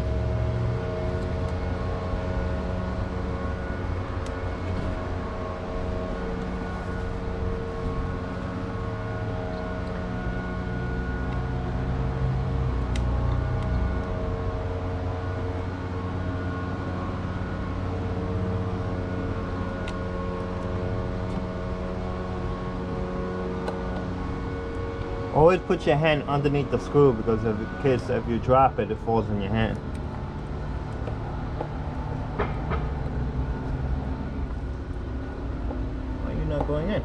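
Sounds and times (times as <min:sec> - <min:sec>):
machine droning: 0:00.0 - 0:37.0.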